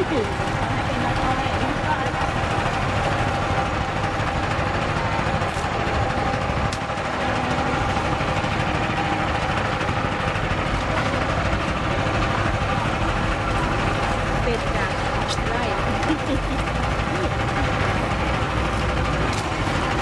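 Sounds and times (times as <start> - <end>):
sugarcane juice press running: 0.0 - 20.0.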